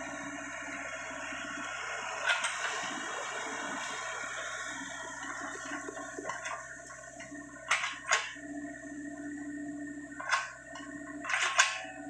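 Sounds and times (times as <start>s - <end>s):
excavator engine and hydraulics humming: 0.0s - 12.0s.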